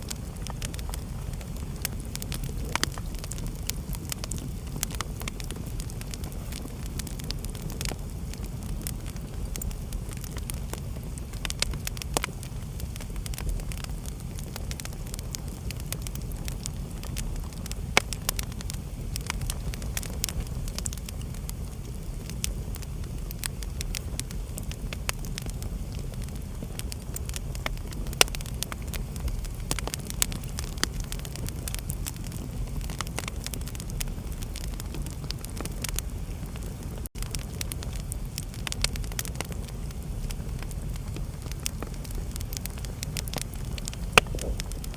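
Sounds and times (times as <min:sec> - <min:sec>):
fire pops and snaps: 0:00.0 - 0:44.9
low fire rumble: 0:00.0 - 0:44.9
wood fire crackling: 0:00.0 - 0:44.9.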